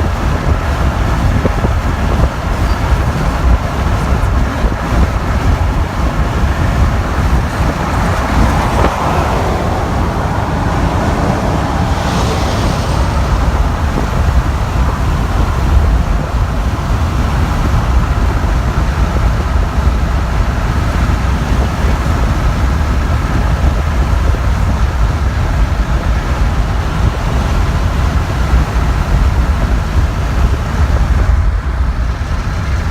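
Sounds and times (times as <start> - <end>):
freight train rumbling past: 0.0 - 32.9.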